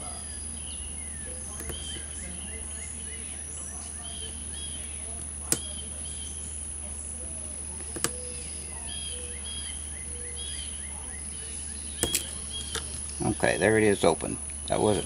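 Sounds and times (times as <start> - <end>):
bird chirping: 0.0 - 15.0
steady low hum: 0.0 - 15.0.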